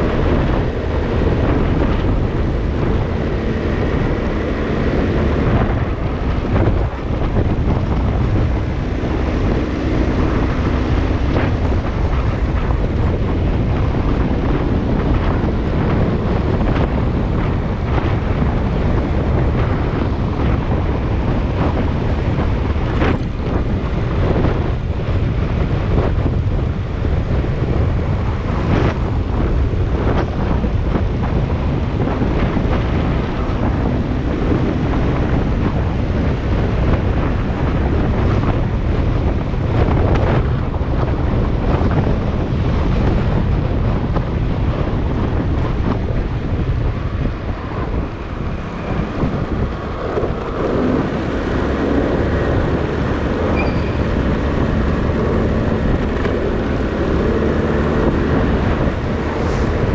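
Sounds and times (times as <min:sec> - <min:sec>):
motorcycle engine: 0:00.0 - 0:59.9
wind noise on microphone: 0:00.0 - 0:59.9.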